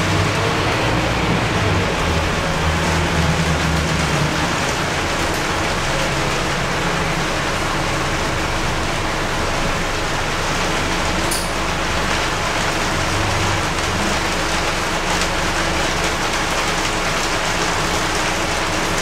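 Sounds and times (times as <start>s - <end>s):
diesel engine hum: 0.0s - 19.0s
heavy rain on bus windows: 0.0s - 19.0s.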